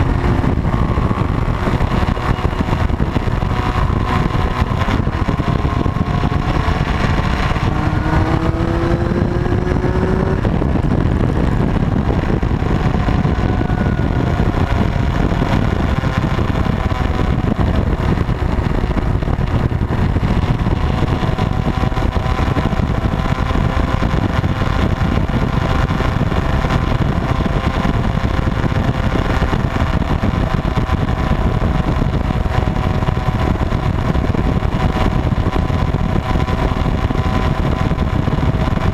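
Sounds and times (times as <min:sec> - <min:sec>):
low rushing road noise: 0:00.0 - 0:38.9
motorcycle engine running: 0:00.0 - 0:38.9.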